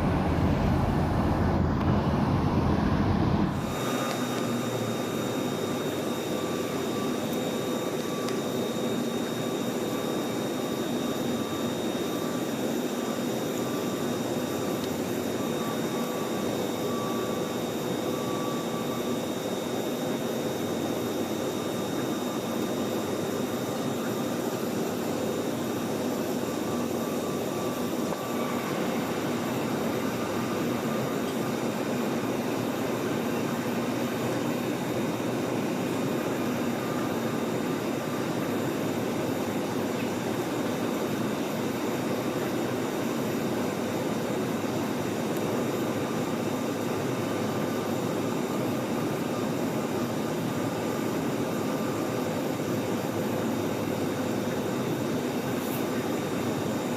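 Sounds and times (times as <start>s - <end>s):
constant whining tones: 0.0s - 56.9s
jet engine and airflow noise: 0.0s - 56.9s.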